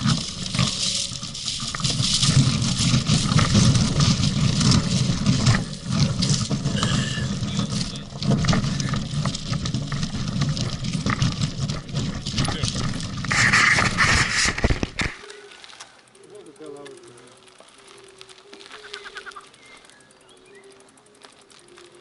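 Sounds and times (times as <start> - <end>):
camera rattling: 0.0 - 15.9, 16.8 - 22.0
bicycle crunching over gravel: 0.0 - 22.0.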